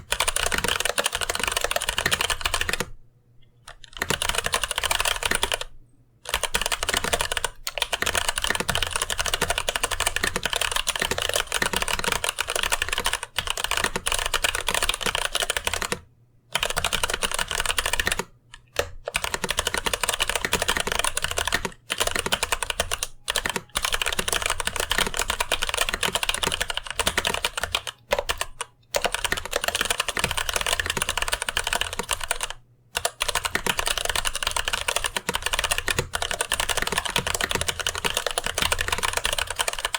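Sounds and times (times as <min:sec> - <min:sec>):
fast typing on mechanical keyboard: 0:00.0 - 0:02.9, 0:03.7 - 0:16.0, 0:16.6 - 0:39.9.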